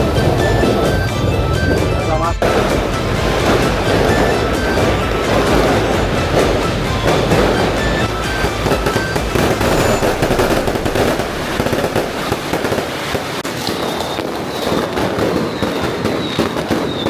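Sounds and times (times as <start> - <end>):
thin high whistle: 0.0 - 12.8, 13.5 - 17.0
fireworks crackling and popping: 0.0 - 17.0.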